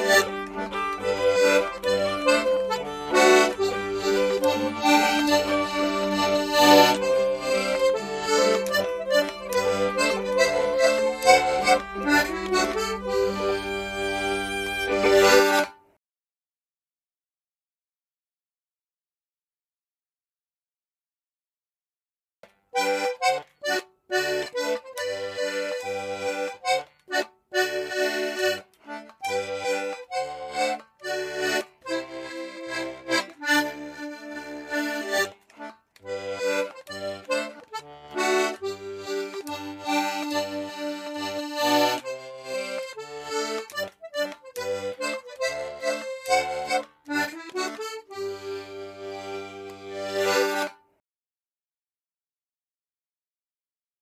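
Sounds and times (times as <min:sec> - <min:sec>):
accordion playing dance tune: 0:00.0 - 0:15.9, 0:22.8 - 0:50.9.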